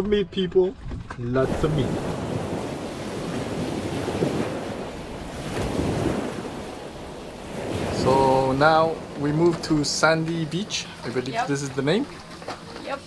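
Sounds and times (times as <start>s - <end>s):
surf washing and foam churning: 1.3s - 13.0s
ocean wave breaking: 1.4s - 13.0s.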